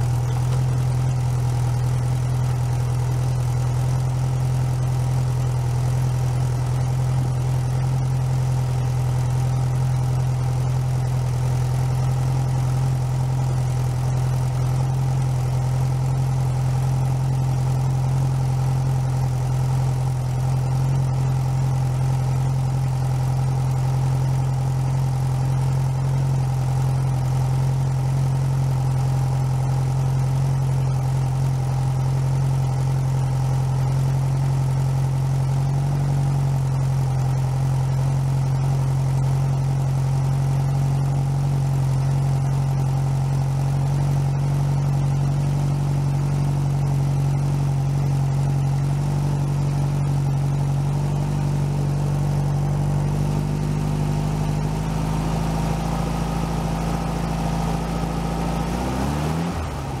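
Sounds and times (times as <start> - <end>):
air-cooled engine idling: 0.0 - 60.0.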